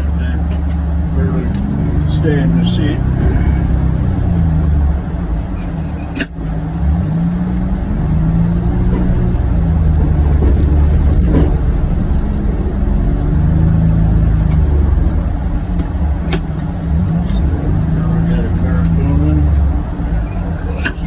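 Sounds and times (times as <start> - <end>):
vehicle engine running under load: 0.0 - 21.0.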